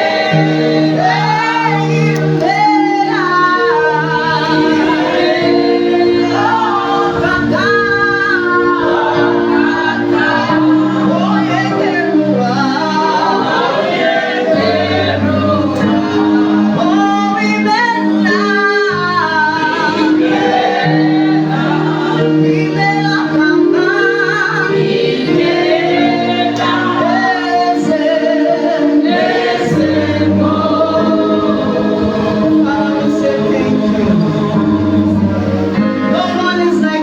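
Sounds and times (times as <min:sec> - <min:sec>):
group singing worship song: 0:00.0 - 0:37.0
keyboard and bass accompaniment: 0:00.0 - 0:37.0.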